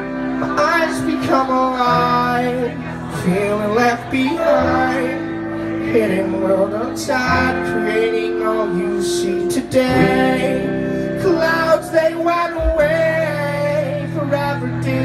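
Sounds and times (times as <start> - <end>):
electric guitar: 0.0 - 15.0
man singing long notes: 0.0 - 15.0
sustained bass notes: 0.0 - 15.0.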